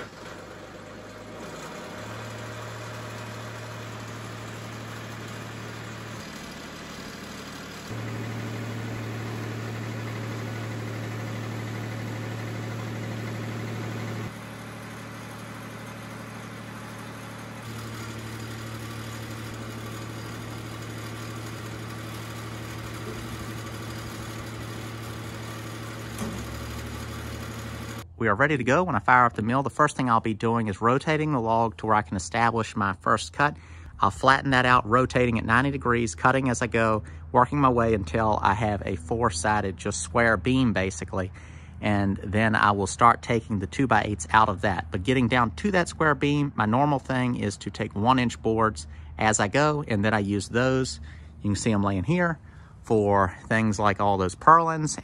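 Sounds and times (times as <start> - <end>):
engine idling hum: 0.0 - 29.2, 33.3 - 55.0.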